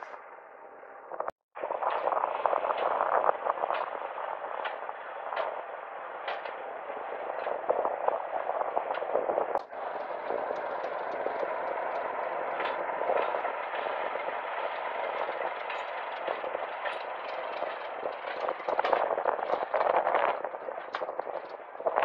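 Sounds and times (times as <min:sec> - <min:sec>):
diesel locomotive rumbling past: 0:00.0 - 0:22.0
wheels clicking on rails: 0:01.6 - 0:22.0.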